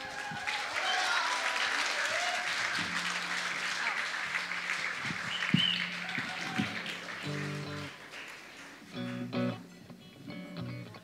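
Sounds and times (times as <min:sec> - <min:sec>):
audience applause: 0:00.0 - 0:09.4.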